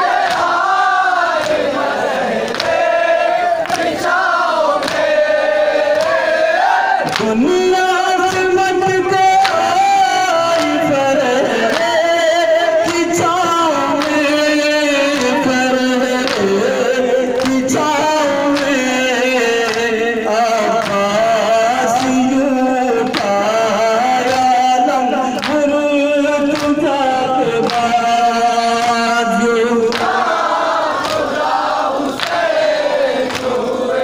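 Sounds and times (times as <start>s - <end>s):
men chanting a melody: 0.0s - 34.0s.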